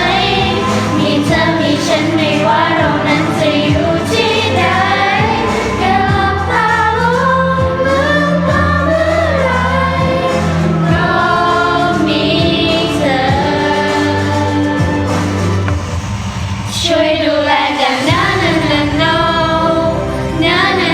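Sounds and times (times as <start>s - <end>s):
choir singing in harmony: 0.0s - 20.9s.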